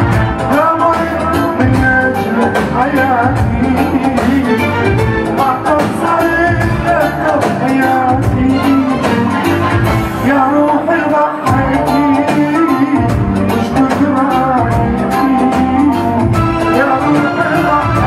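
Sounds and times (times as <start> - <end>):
amplified band with steady beat: 0.0 - 18.0
man singing into microphone: 0.0 - 18.0.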